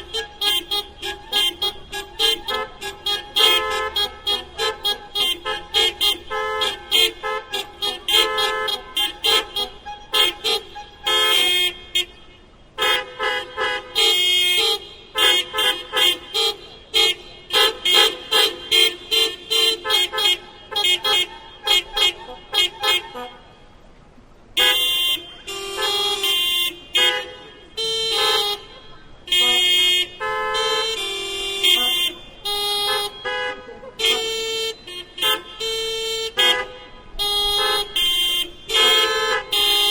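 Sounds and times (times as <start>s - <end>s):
car horns honking in rhythm: 0.0s - 39.9s.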